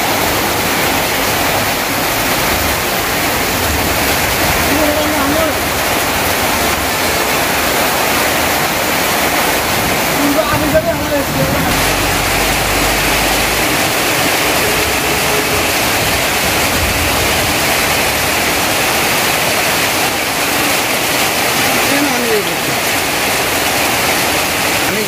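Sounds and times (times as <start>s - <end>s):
heavy rain on tarpaulin: 0.0s - 25.0s
water running off eaves: 0.0s - 25.0s.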